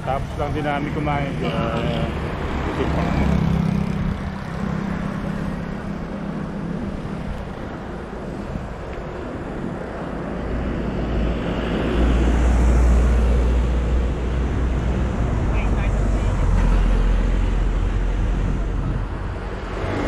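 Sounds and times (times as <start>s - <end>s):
bus engine rumble: 0.0s - 20.0s
road traffic: 0.0s - 20.0s
wind on microphone: 3.6s - 20.0s.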